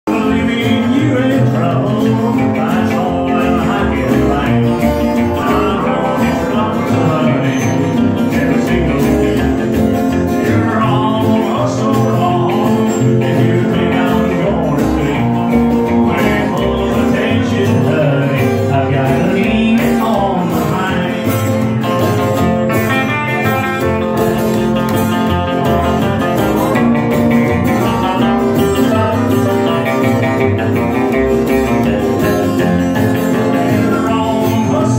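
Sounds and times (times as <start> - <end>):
upright bass: 0.0 - 34.9
electric lead guitar: 0.1 - 34.9
pedal steel guitar: 0.1 - 34.9
strummed acoustic guitar: 0.1 - 34.9.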